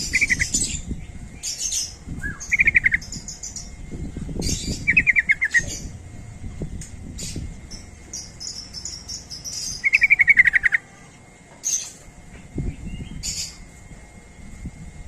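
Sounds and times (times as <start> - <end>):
bird singing and chattering: 0.0 - 12.0, 12.6 - 13.7.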